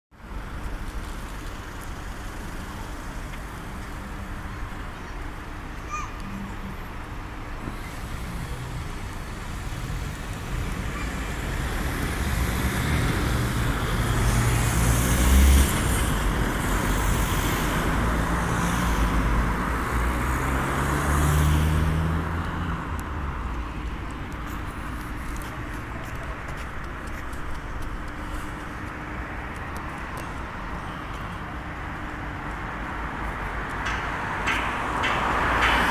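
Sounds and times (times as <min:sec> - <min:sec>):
large vehicles passing: 0:00.2 - 0:35.9.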